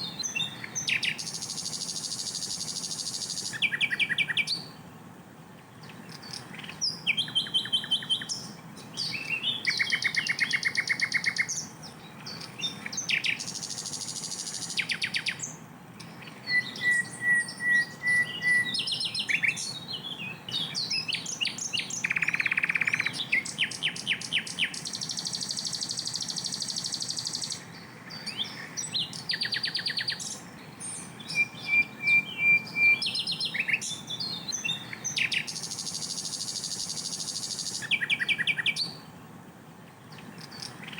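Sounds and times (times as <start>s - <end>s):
flycatcher singing rapid trills: 0.0s - 4.8s, 6.1s - 39.0s.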